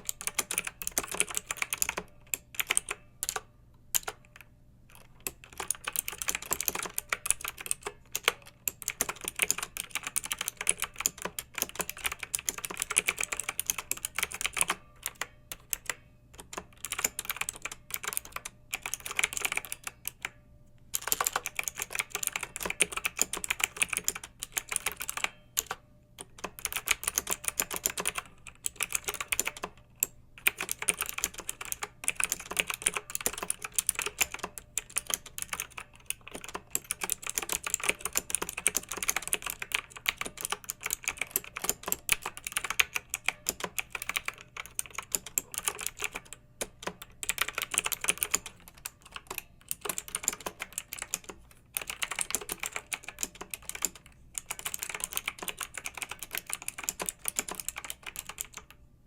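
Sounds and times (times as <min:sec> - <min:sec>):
mechanical keyboard typing: 0:00.0 - 0:20.4, 0:21.0 - 0:58.8.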